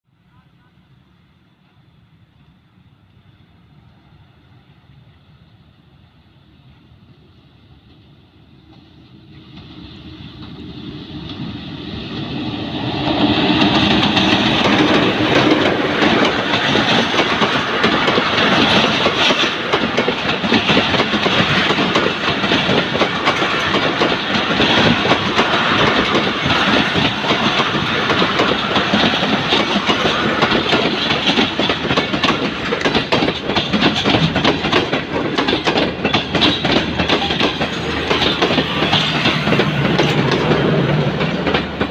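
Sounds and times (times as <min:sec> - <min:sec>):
diesel locomotive passing: 0:00.1 - 0:41.9
train wheels clickety-clack: 0:07.7 - 0:41.9.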